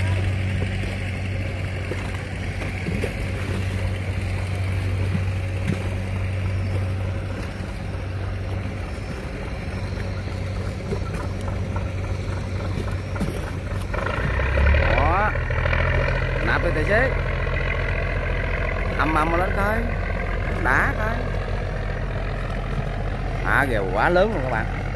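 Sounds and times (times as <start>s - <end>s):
boat diesel engine drone: 0.0s - 24.9s
water rushing along hull: 0.0s - 24.9s.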